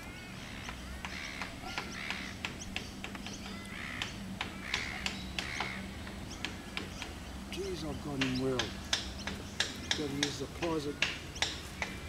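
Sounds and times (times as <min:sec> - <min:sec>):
birds calling: 0:00.0 - 0:12.0
sharp irregular clicks: 0:00.0 - 0:12.0.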